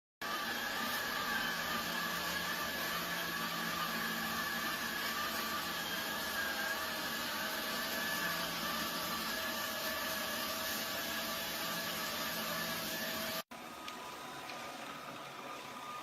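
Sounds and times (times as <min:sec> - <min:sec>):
robot vacuum cleaner whirring: 0:00.2 - 0:16.0.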